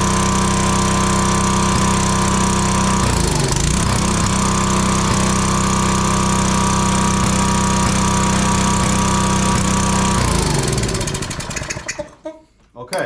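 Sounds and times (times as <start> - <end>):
small engine running: 0.0 - 12.2.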